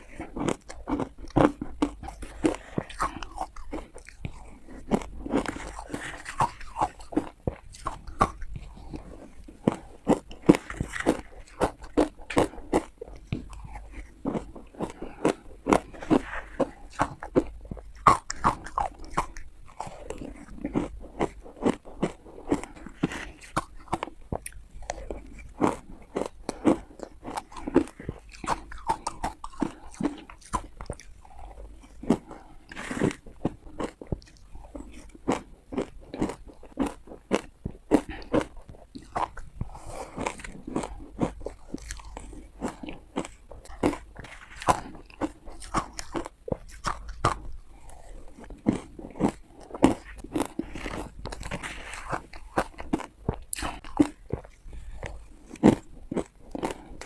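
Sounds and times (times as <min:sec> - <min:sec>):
chewing: 0:00.0 - 0:57.0
teeth crunching ice: 0:00.0 - 0:57.0.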